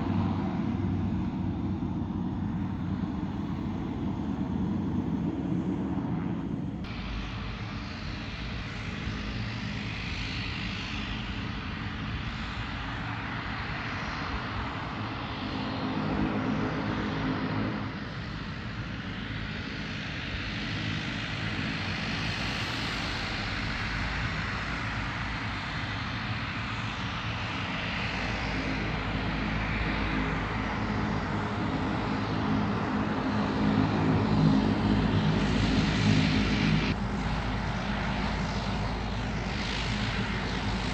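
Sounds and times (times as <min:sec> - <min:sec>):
propeller airliner engines droning: 0:00.0 - 0:40.9.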